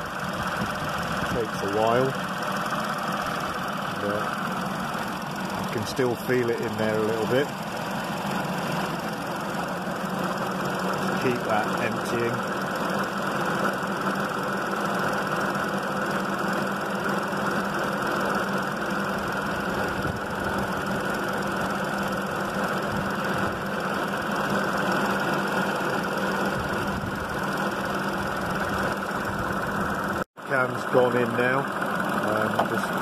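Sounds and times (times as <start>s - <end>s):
air-conditioning compressor running: 0.0s - 33.0s
car engine idling: 0.0s - 33.0s.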